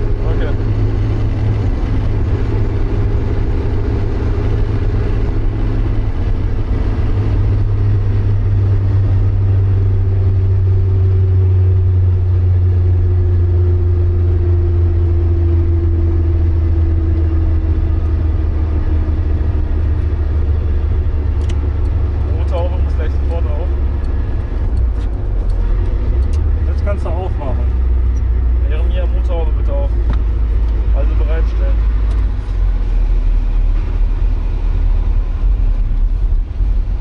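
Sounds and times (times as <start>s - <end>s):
car engine drone from cabin: 0.0s - 37.0s.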